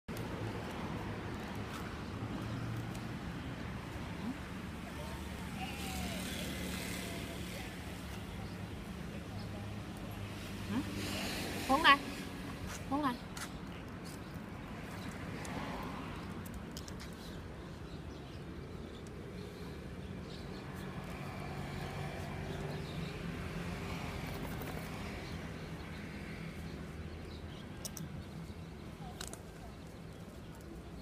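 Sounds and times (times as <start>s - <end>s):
low hum of distant traffic: 0.1s - 31.0s.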